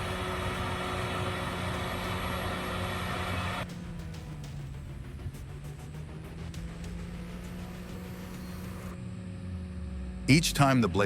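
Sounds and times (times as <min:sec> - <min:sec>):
heavy machine engine running: 0:00.0 - 0:10.3
background music: 0:00.0 - 0:11.0
low hum: 0:00.0 - 0:11.0.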